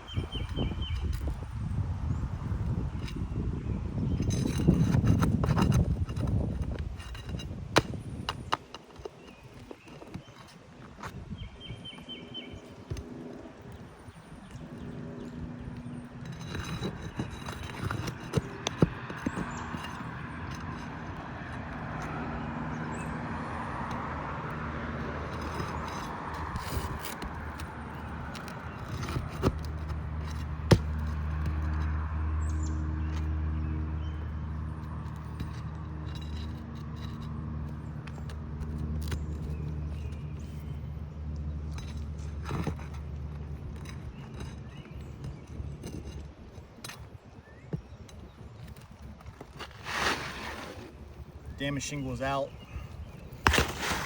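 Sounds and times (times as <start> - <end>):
tools scraping roof shingles: 0.0 - 54.0
vehicle engine hum: 0.0 - 54.0.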